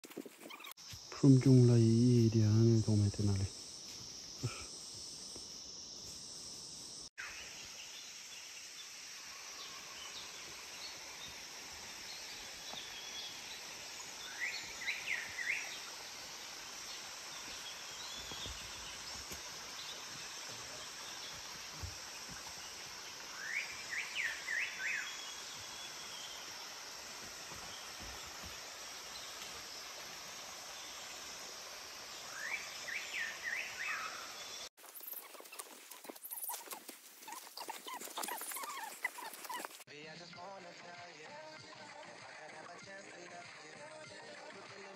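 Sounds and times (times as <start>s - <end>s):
insects droning: 0.1s - 39.9s.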